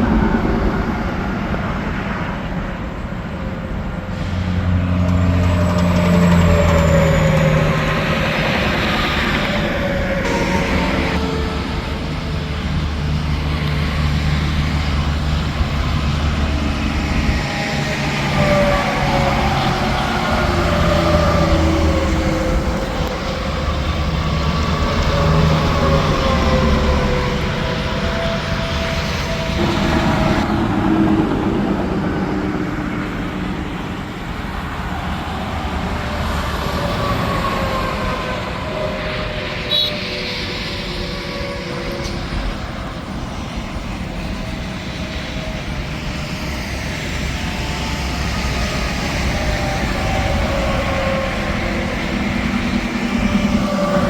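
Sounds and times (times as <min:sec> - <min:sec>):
truck engine drone: 0:00.0 - 0:54.0
trucks passing at speed: 0:00.0 - 0:54.0
tyre and traffic noise: 0:00.0 - 0:54.0.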